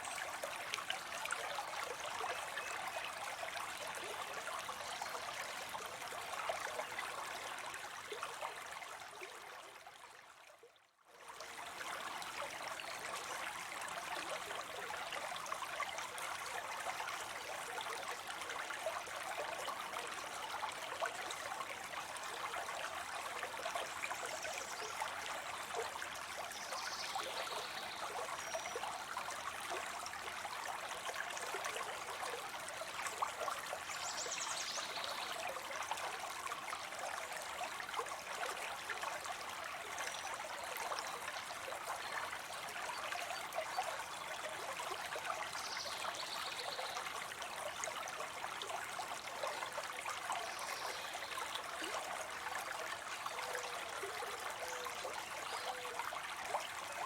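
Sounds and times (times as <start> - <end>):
water spilling into a pond: 0.0 - 57.0.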